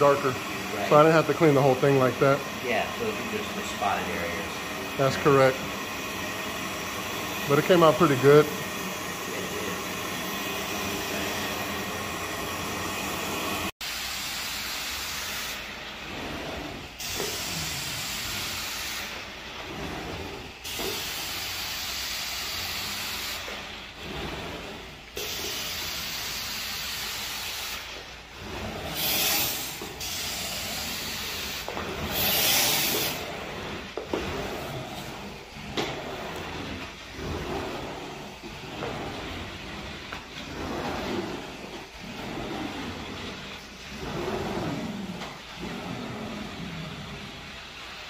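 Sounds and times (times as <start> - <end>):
extraction machine hissing: 0.0 - 48.0.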